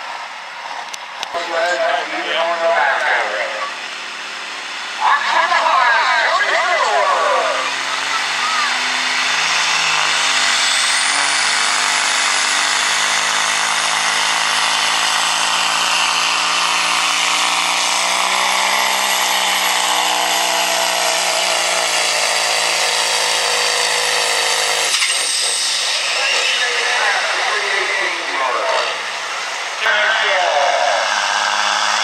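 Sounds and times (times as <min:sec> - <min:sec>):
diesel truck engine at full throttle: 0:00.0 - 0:32.0.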